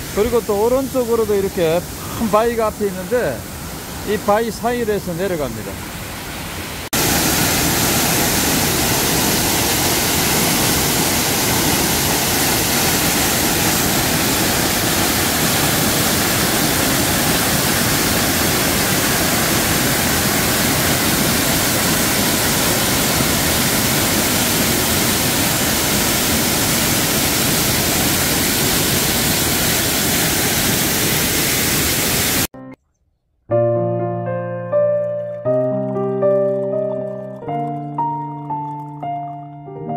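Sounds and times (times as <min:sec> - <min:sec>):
waterfall rushing over rock: 0:00.0 - 0:32.5.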